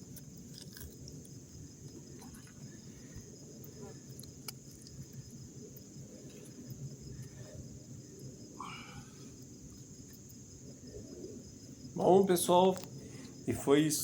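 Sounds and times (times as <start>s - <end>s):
crickets and insects trilling: 0.0s - 14.0s.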